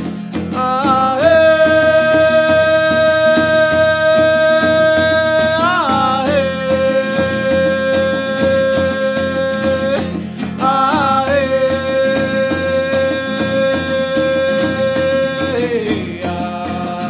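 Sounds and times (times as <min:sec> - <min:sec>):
strummed acoustic guitar: 0:00.0 - 0:17.0
person singing long notes: 0:00.5 - 0:17.0.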